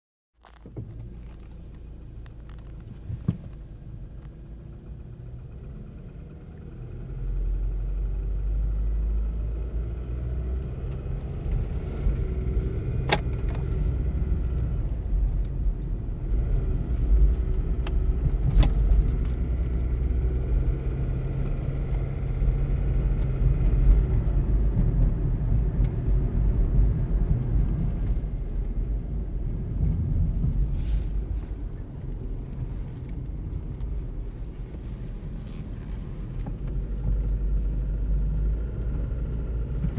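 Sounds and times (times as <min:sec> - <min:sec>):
car engine rumble: 0:00.4 - 0:39.9.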